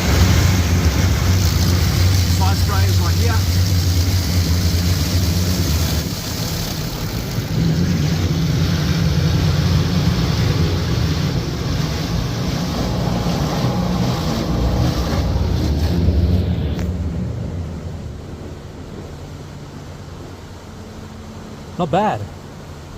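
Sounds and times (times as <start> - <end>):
water jets spraying against car: 0.0 - 22.9.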